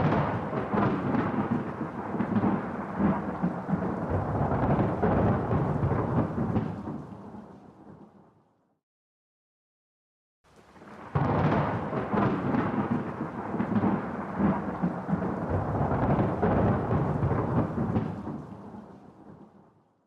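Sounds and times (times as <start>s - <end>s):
thunder rumbling: 0.0s - 8.0s, 10.7s - 19.4s.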